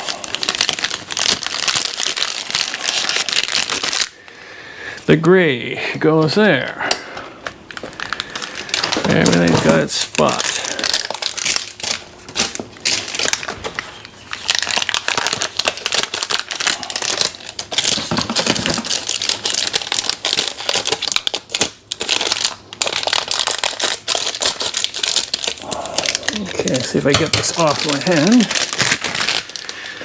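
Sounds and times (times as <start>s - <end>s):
plastic wrapping crinkling: 0.0s - 4.4s, 7.4s - 30.0s.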